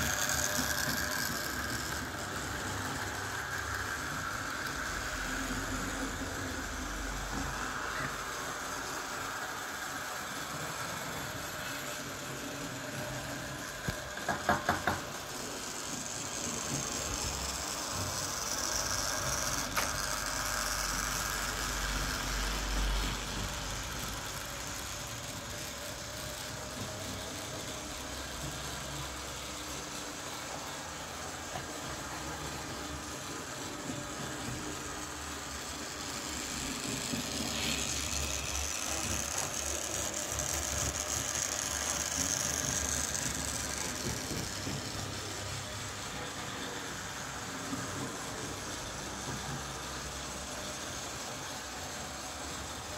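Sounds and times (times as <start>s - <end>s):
model train motor whir: 0.0s - 52.9s.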